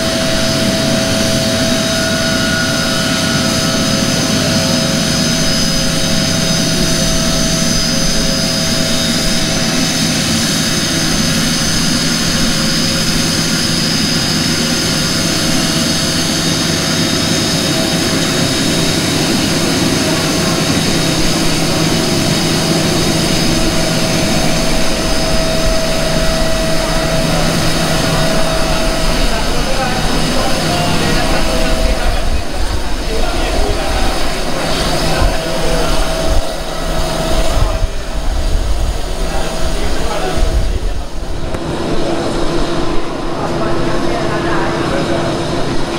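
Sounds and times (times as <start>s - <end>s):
jet engines whining: 0.0s - 45.9s.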